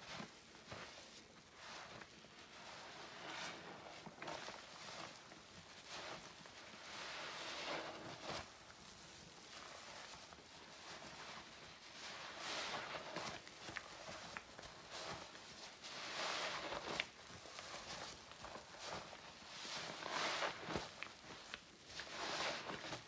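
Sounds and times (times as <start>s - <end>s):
wet sponge squelching: 1.6s - 8.5s, 10.8s - 23.0s.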